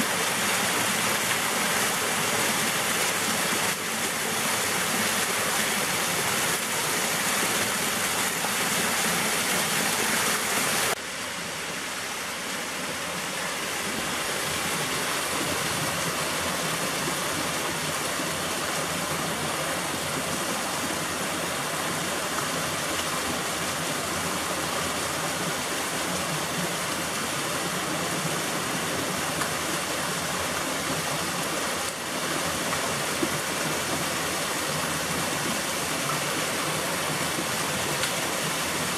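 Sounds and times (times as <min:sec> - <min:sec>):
stream cascading down gorge: 0:00.0 - 0:38.9
waterfall splashing into pool: 0:00.0 - 0:38.9.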